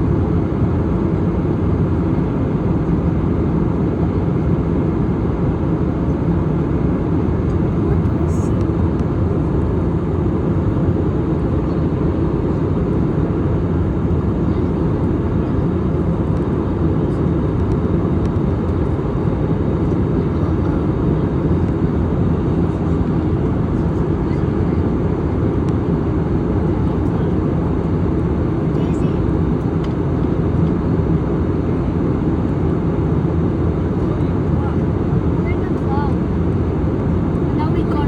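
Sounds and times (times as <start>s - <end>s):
jet engine roar in cabin: 0.0s - 38.0s.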